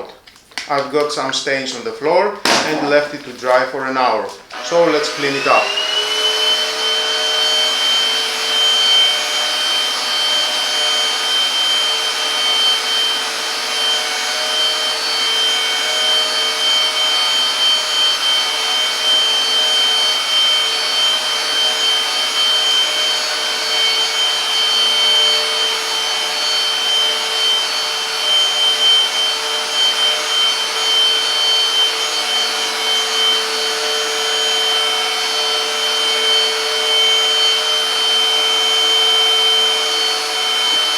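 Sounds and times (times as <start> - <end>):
vacuum motor high-pitched whine: 4.2 - 40.9.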